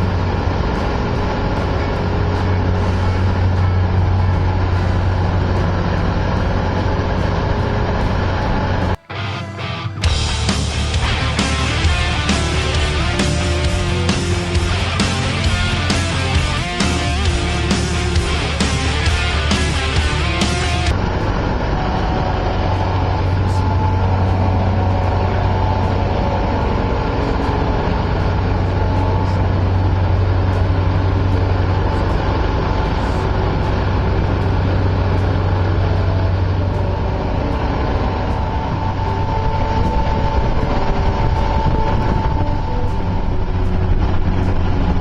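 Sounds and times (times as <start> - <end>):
motorboat engine droning: 0.0 - 45.0.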